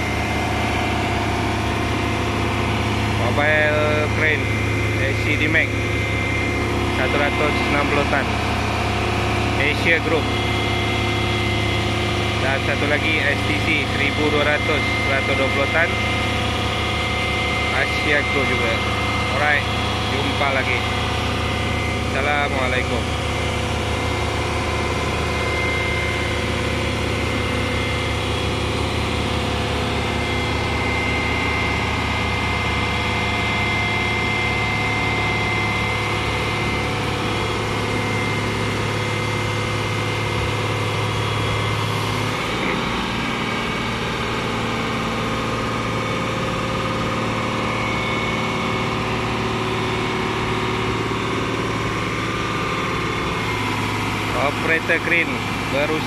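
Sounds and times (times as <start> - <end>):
diesel engine idling: 0.0 - 56.0
high whine: 0.0 - 56.0.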